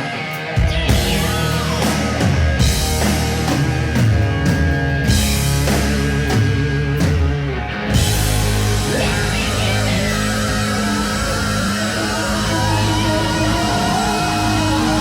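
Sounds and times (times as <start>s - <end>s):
distorted electric guitars: 0.0s - 15.0s
rock band playing: 0.0s - 15.0s.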